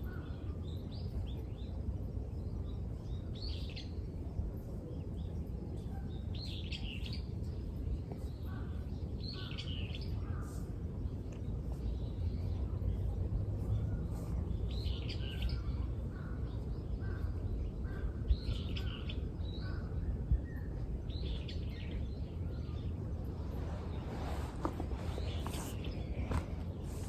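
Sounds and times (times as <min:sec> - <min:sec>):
low background rumble: 0:00.0 - 0:27.0.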